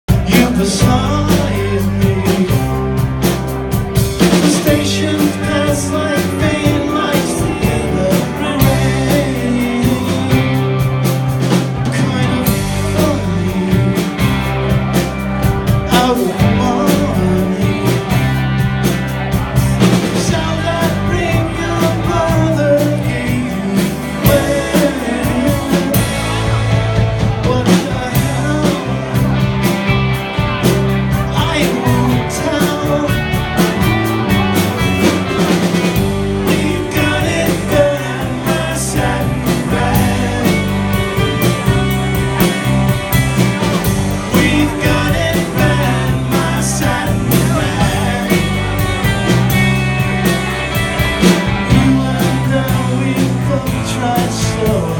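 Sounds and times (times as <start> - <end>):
live rock band playing: 0.1 - 54.9
person singing: 0.1 - 54.9.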